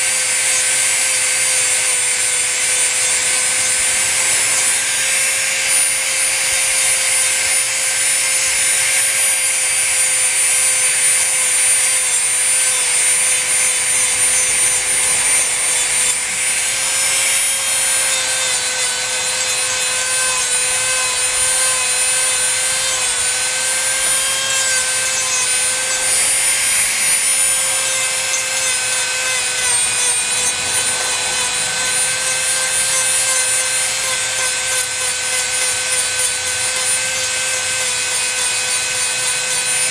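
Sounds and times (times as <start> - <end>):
rotary tool grinding paint: 0.0 - 39.9.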